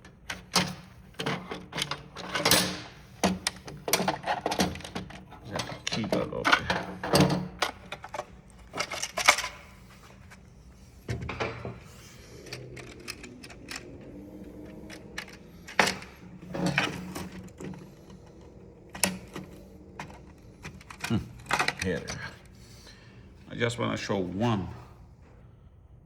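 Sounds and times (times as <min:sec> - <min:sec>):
plastic parts clicking and clattering: 0:00.0 - 0:22.6.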